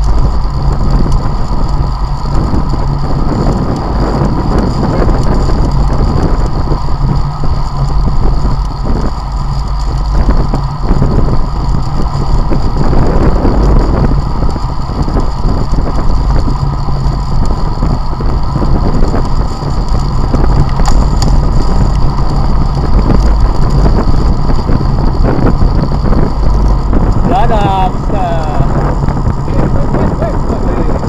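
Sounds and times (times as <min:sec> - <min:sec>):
wind rumbling across microphone: 0:00.0 - 0:31.0.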